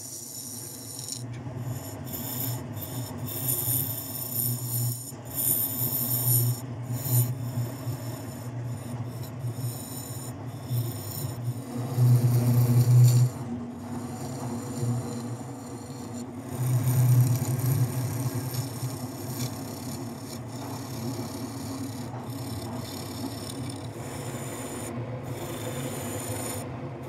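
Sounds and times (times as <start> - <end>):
gouge scraping wood on lathe: 0.0 - 26.7
lathe low hum: 0.0 - 27.0.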